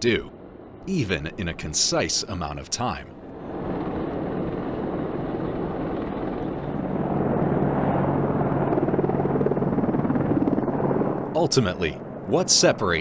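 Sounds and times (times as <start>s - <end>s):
helicopters flying: 0.0s - 13.0s.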